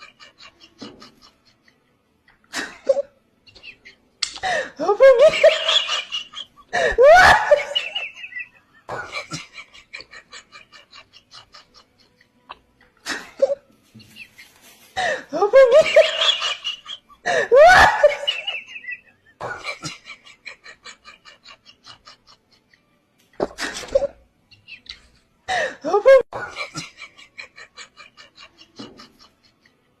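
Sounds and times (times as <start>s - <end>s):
person laughing: 0.0s - 1.8s, 2.4s - 14.3s, 15.0s - 29.8s.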